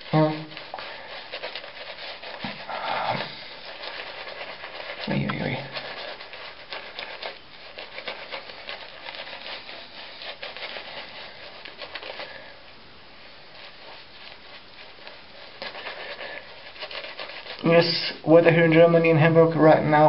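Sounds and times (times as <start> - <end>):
shaving brush swishing lather: 0.0 - 20.0.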